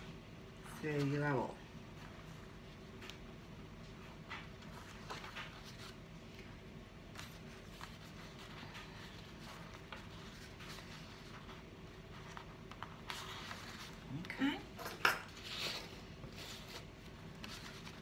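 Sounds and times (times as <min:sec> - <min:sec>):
soft handling noises: 0:00.8 - 0:18.0
paper rustling and crinkling: 0:01.9 - 0:14.3, 0:15.3 - 0:18.0.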